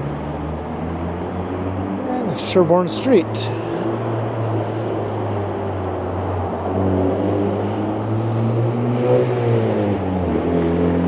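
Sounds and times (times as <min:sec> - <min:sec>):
vehicle engine accelerating: 0:00.1 - 0:11.0.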